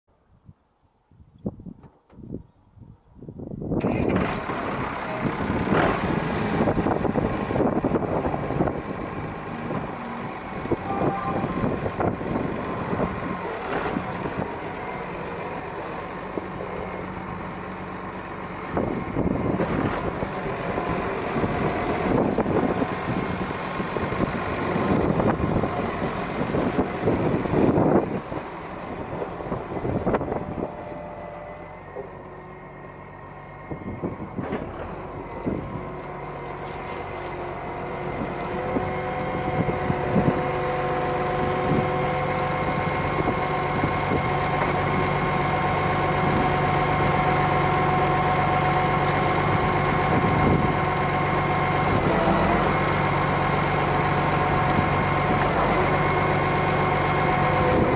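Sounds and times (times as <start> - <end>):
tractor diesel engine running: 1.8 - 57.9.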